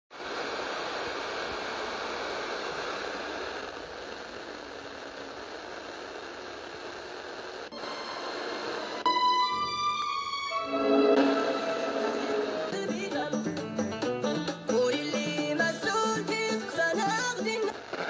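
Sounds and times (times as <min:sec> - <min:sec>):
radio static hiss: 0:00.1 - 0:09.8, 0:11.2 - 0:13.0, 0:14.5 - 0:18.0.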